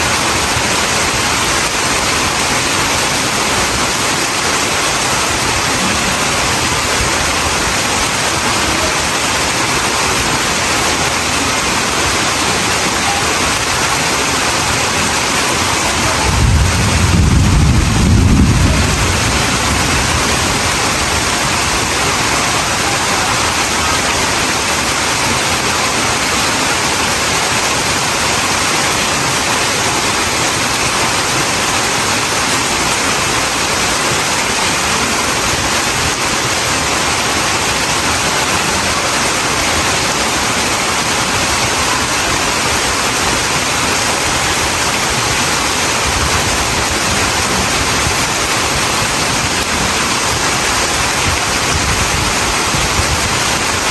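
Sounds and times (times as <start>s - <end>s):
rain falling steadily: 0.0s - 53.9s.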